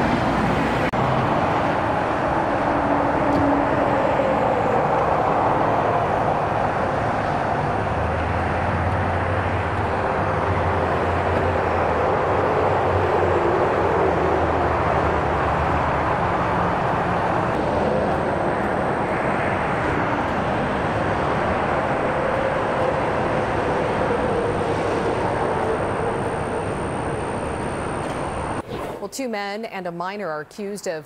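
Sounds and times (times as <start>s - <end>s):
loud engine drone: 0.0s - 28.7s
low hum: 0.0s - 29.1s.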